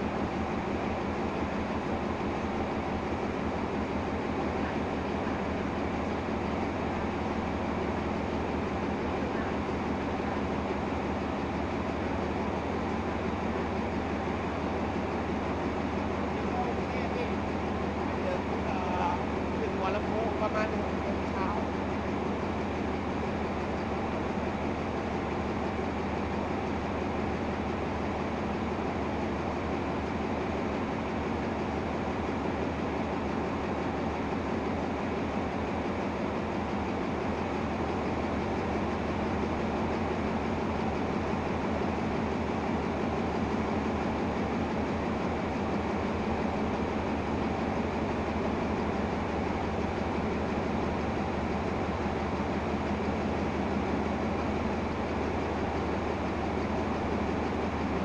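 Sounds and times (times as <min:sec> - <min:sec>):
cooling fans rushing: 0:00.0 - 0:58.0
diesel locomotive idling: 0:00.0 - 0:58.0.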